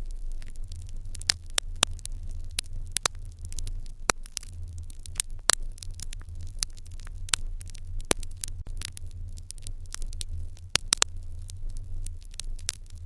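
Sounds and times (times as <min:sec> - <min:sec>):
steady low hum: 0:00.0 - 0:13.0
wood fire crackling and popping: 0:00.0 - 0:13.0.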